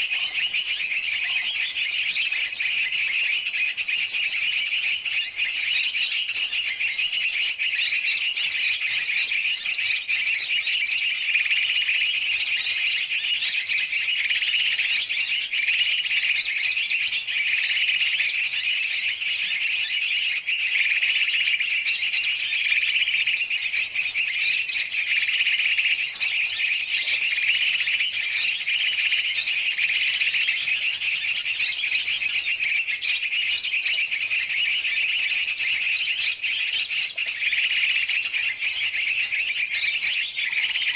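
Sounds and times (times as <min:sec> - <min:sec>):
birds chattering and chirping: 0:00.0 - 0:40.9.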